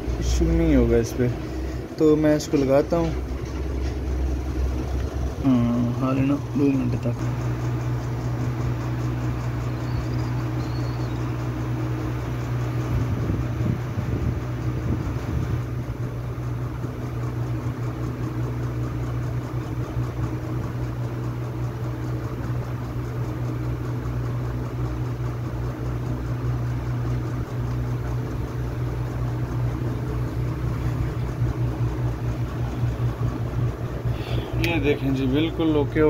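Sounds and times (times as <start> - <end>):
hot air gun fan whirring: 0.0 - 36.0.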